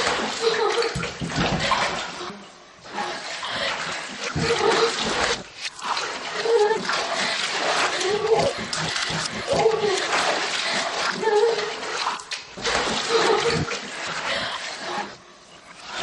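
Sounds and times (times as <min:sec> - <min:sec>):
water splashing in a bathtub: 0:00.0 - 0:16.0.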